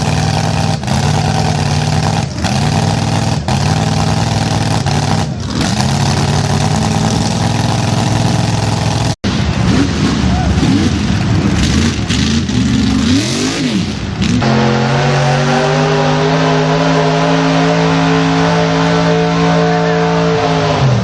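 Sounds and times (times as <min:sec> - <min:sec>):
vehicle engine running hard: 0:00.0 - 0:21.0.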